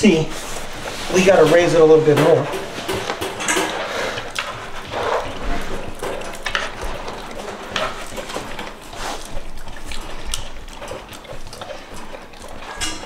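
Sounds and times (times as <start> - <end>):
puppy licking wet smacks: 0.4 - 13.0.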